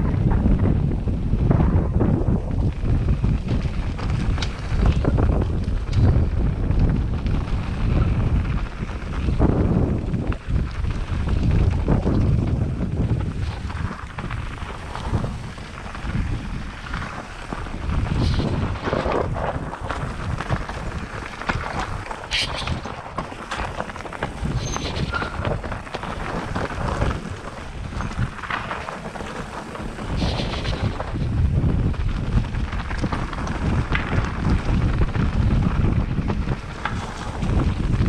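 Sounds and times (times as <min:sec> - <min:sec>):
bike rattling and knocking: 0:00.0 - 0:38.0
tyres rolling over dirt and stones: 0:00.0 - 0:38.0
wind rushing on microphone: 0:00.0 - 0:38.0.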